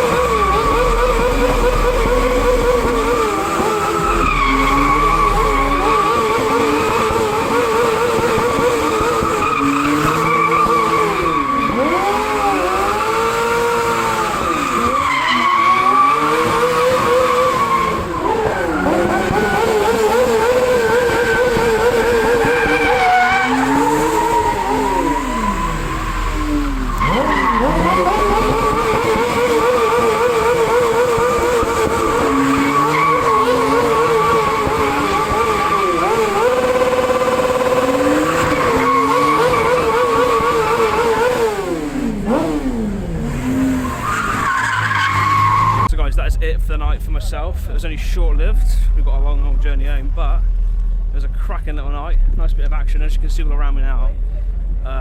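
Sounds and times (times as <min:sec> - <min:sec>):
tyres squealing: 0:00.0 - 0:45.9
car engines revving: 0:00.0 - 0:55.0.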